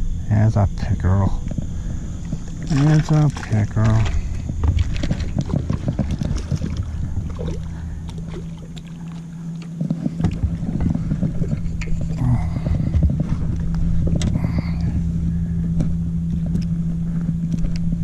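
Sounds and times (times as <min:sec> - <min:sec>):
steady low hum: 0:00.0 - 0:18.0
water lapping against boat hull: 0:01.4 - 0:18.0.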